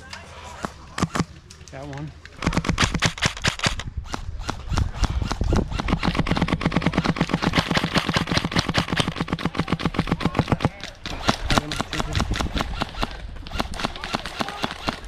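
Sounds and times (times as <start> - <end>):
airsoft gun firing bursts: 0.6 - 1.3, 2.4 - 15.0.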